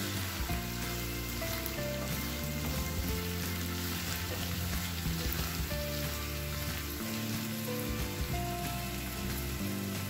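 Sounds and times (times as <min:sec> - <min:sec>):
meat sizzling in hot oil: 0:00.0 - 0:10.0
soft background music: 0:00.0 - 0:10.0.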